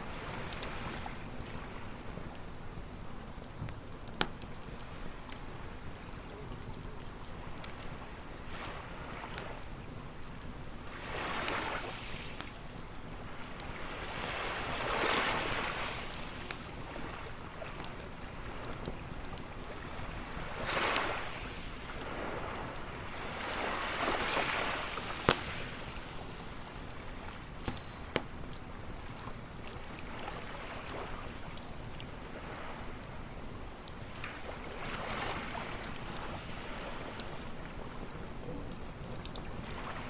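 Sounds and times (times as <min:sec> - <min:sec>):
ocean waves on beach: 0:00.0 - 0:02.9, 0:04.2 - 0:40.0
campfire crackling: 0:00.0 - 0:40.0
campfire popping: 0:00.1 - 0:40.0.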